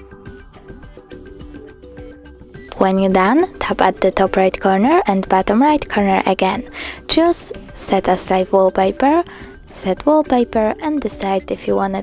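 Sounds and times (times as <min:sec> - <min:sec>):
music with sustained notes and beat: 0:00.0 - 0:12.0.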